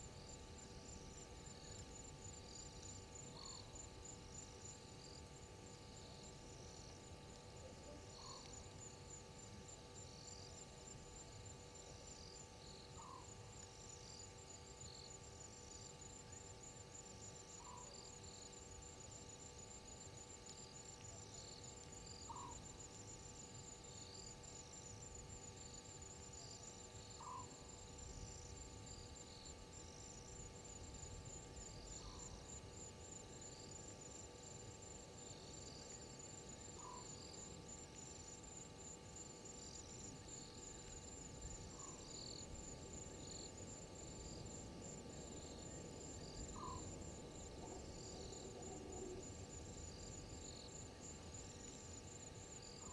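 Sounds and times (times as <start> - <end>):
faint hum: 0.0 - 52.9
insects trilling: 0.0 - 52.9.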